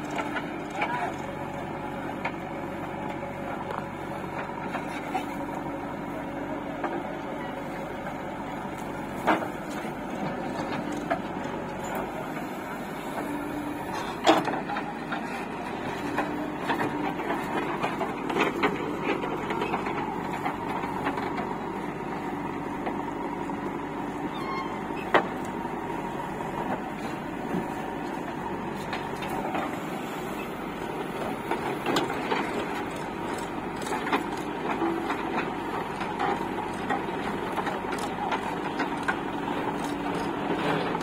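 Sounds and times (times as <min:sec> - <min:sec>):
heavy machinery diesel engine running: 0:00.0 - 0:41.0.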